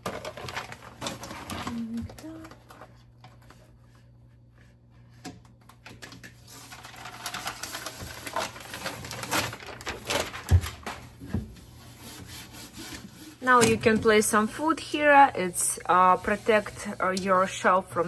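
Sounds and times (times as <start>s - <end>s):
plastic sheet crinkling: 0.0s - 3.6s, 5.5s - 18.0s.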